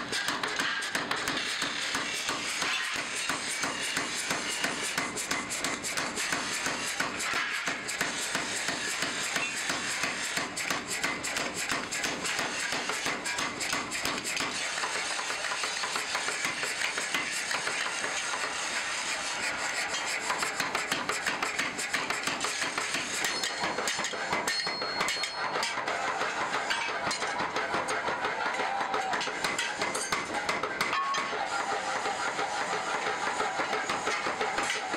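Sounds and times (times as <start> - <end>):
power hammer striking hot steel: 0.0 - 34.9.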